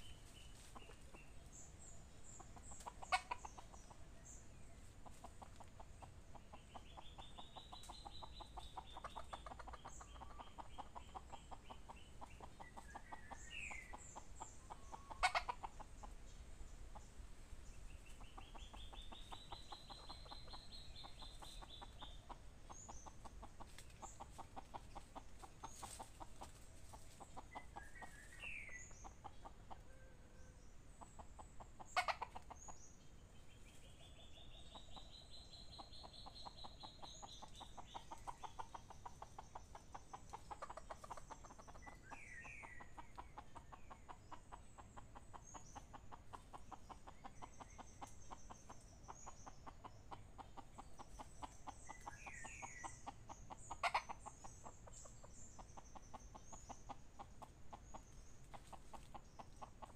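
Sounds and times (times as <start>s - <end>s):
bird chirps and calls: 0.0s - 26.3s, 26.9s - 59.9s
chicken clucking faintly: 0.0s - 59.9s.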